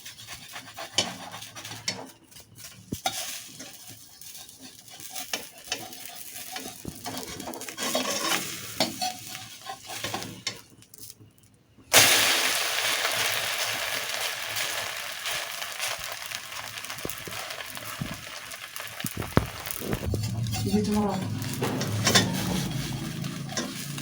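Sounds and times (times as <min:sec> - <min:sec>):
egg sizzling in hot oil: 0:00.0 - 0:11.2, 0:11.9 - 0:24.0.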